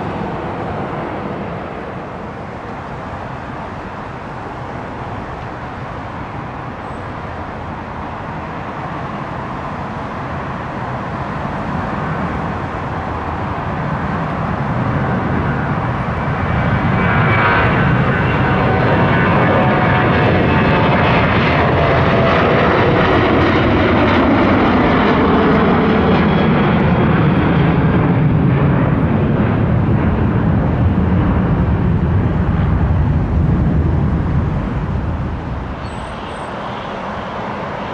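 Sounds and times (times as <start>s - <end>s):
jet engine at takeoff: 0.0s - 37.9s.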